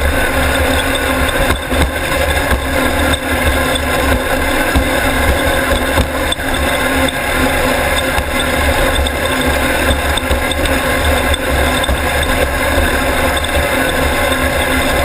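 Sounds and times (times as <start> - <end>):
buggy engine running: 0.0 - 15.0.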